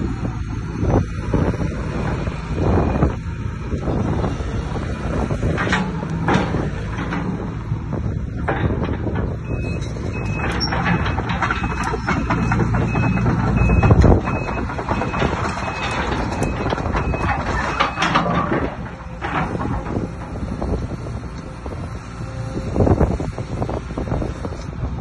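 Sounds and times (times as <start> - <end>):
excavator diesel engine and hydraulics: 0.0 - 25.0.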